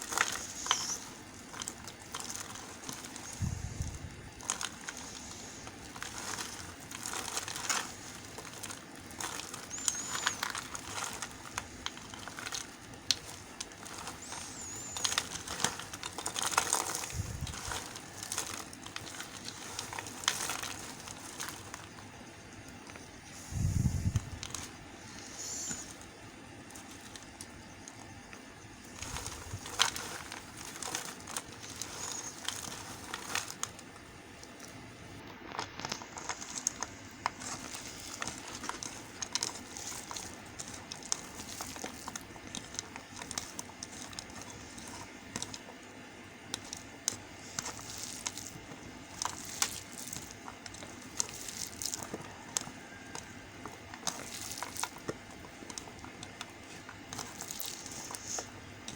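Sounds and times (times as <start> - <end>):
knife cutting soap with crackles: 0.0 - 22.2, 22.8 - 58.9.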